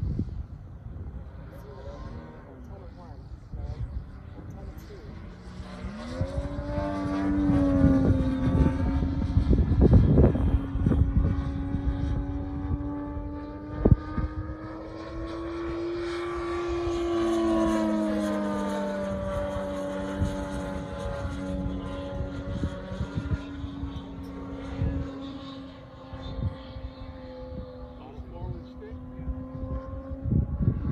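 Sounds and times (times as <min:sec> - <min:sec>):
model aircraft engine drone: 0:00.0 - 0:30.9.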